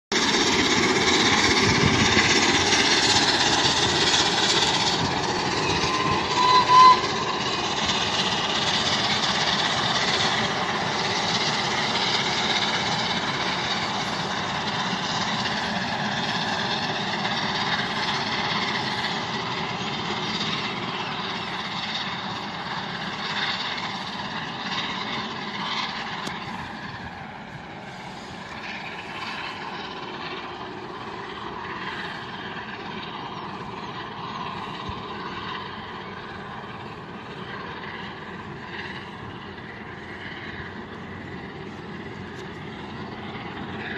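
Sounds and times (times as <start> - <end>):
steam locomotive exhaust: 0.1 - 43.9.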